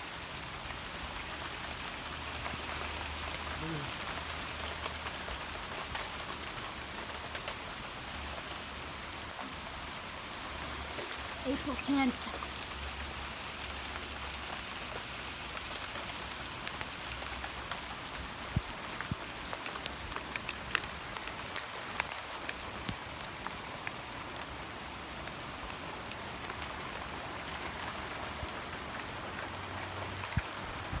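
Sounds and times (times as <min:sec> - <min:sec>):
hail falling hiss: 0:00.6 - 0:30.9
hailstones ticking on hard surfaces: 0:01.4 - 0:09.6, 0:13.9 - 0:30.9.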